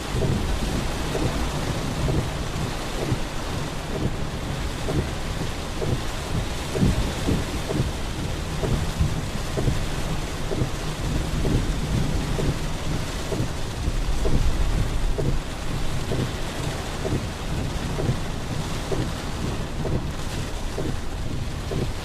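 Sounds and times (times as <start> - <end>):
heavy rain downpour: 0.0 - 22.0
raindrops ticking nearby: 0.0 - 22.0
thunder rumbling: 0.0 - 22.0.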